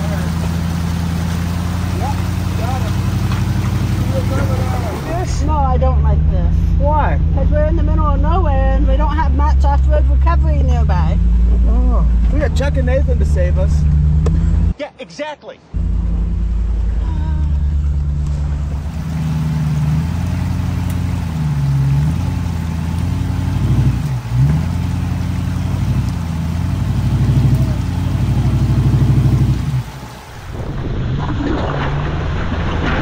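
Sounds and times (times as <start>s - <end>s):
another engine running: 0.0s - 14.7s, 15.8s - 30.8s
off-road vehicle engine revving: 0.0s - 14.8s, 15.8s - 30.8s.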